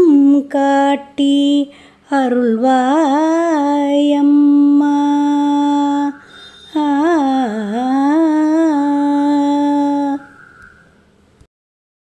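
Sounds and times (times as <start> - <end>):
woman singing: 0.0 - 10.4.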